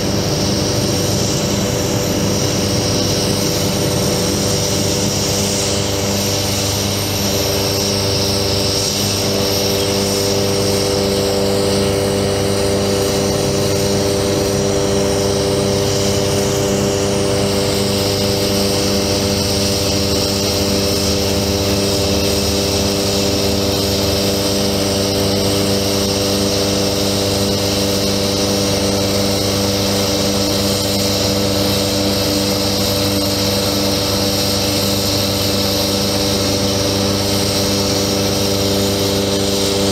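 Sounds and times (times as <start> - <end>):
truck engine and hydraulic pump: 0.0 - 39.9.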